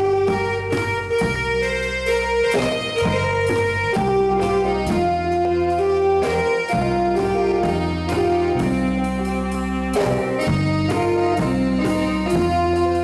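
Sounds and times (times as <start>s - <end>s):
bass guitar: 0.0s - 13.0s
drums and cymbal: 0.0s - 13.0s
electric guitar: 0.0s - 13.0s.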